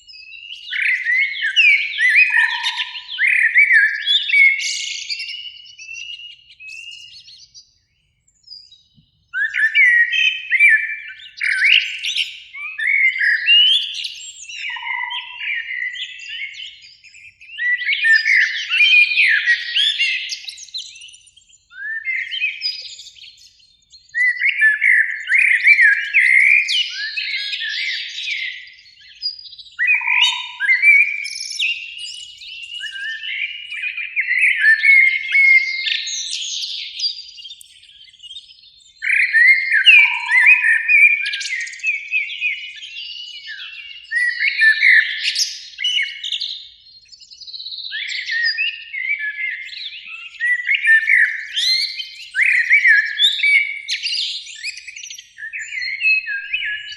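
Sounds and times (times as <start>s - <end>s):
blackbird singing: 0.0s - 56.9s.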